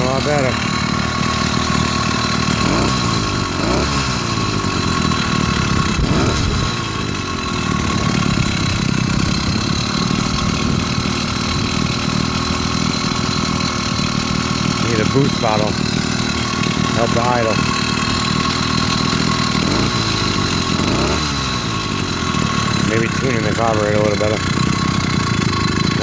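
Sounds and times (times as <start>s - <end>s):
two-stroke engine idling and revving: 0.0s - 26.0s.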